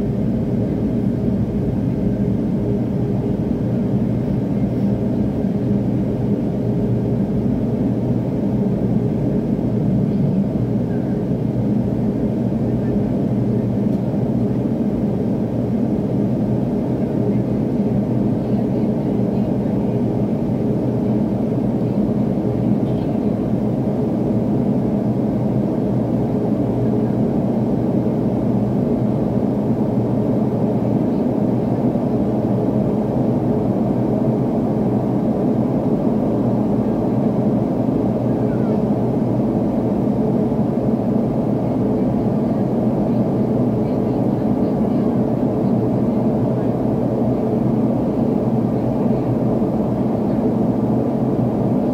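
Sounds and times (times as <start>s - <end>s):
airliner cabin engine drone: 0.0s - 51.9s
low steady hums: 0.0s - 51.9s.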